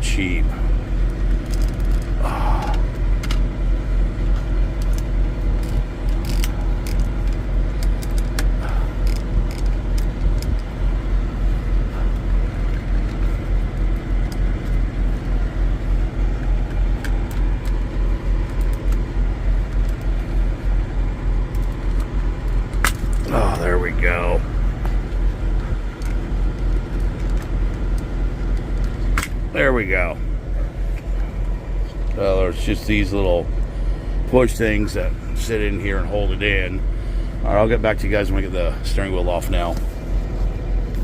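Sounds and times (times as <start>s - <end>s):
engine idling rumble: 0.0s - 41.0s.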